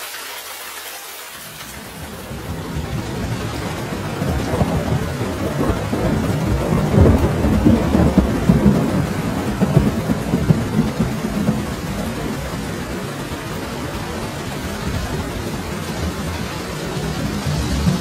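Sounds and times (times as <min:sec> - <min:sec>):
steady rain: 0:00.0 - 0:18.0
thunder rumbling: 0:01.7 - 0:18.0.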